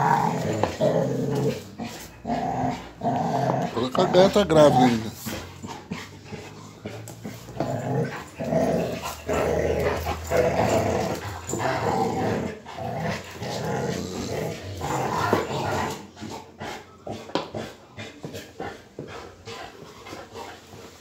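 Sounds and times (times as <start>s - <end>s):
dogs growling: 0.0s - 21.0s.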